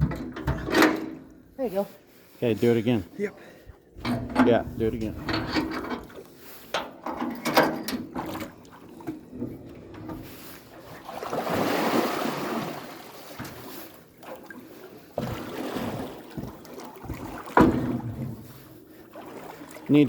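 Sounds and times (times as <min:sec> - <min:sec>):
water splashing and sloshing: 0:00.0 - 0:20.0.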